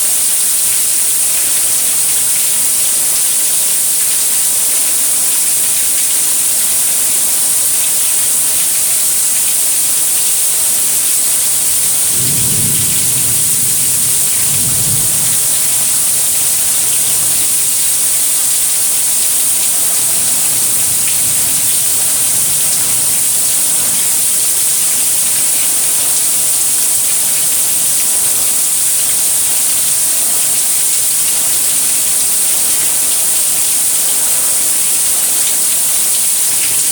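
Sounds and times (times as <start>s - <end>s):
heavy rain hissing: 0.0s - 36.9s.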